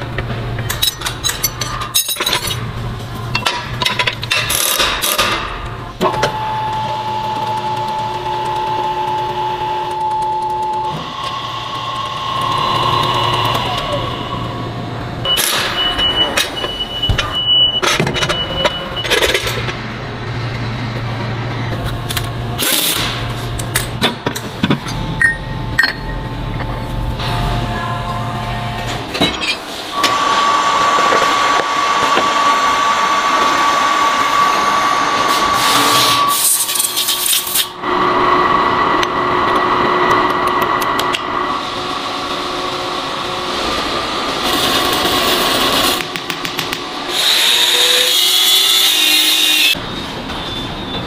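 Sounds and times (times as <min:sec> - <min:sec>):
machine whine: 0:00.0 - 0:51.0.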